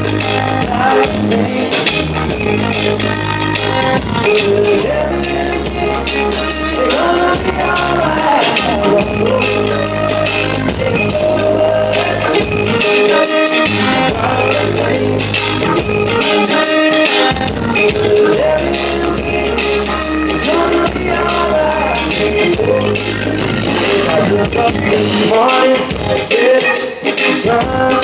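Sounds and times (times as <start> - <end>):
live reggae band playing: 0.0 - 28.0.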